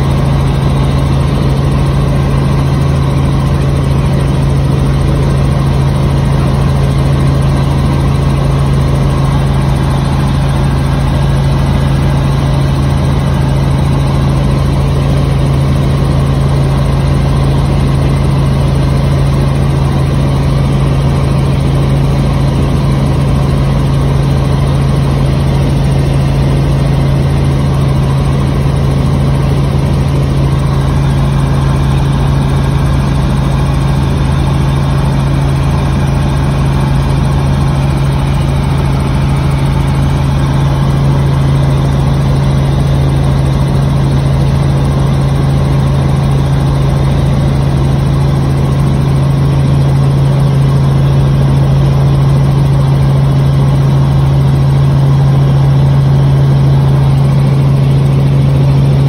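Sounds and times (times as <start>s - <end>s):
helicopter engine and rotors droning: 0.0s - 59.0s.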